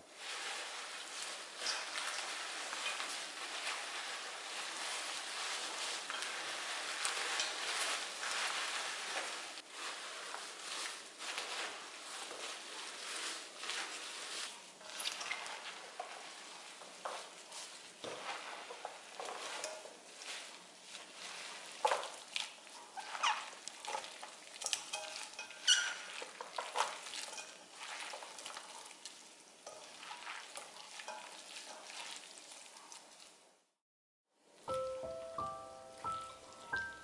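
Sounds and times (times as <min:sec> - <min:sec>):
leaves mixed with wet seasoning: 0:00.0 - 0:33.8, 0:34.4 - 0:37.0.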